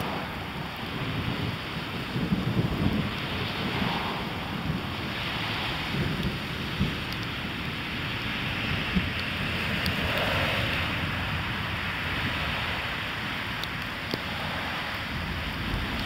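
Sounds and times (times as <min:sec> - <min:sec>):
car tyres on wet road: 0:00.0 - 0:16.0
rain hissing: 0:00.0 - 0:16.0
wind rumble on microphone: 0:00.0 - 0:16.0.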